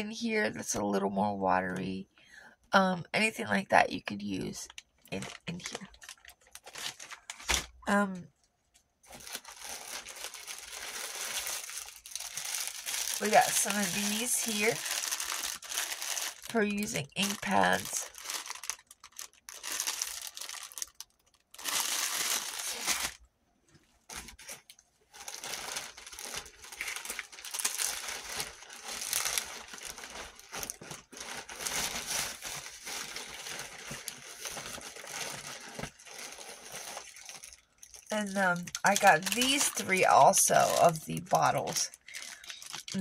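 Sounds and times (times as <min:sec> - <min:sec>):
plastic packaging crinkling: 0:04.6 - 0:07.8, 0:08.7 - 0:43.0.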